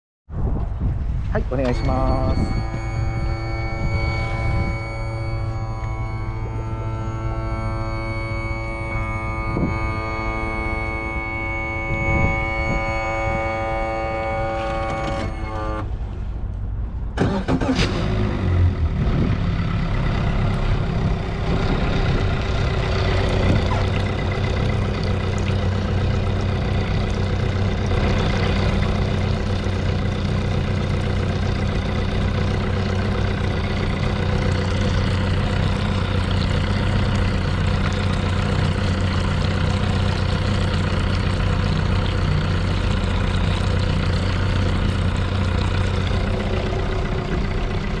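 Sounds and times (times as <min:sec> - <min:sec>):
boat engine starting and idling: 0:01.0 - 0:48.0
steady tone: 0:01.3 - 0:17.1, 0:18.7 - 0:48.0.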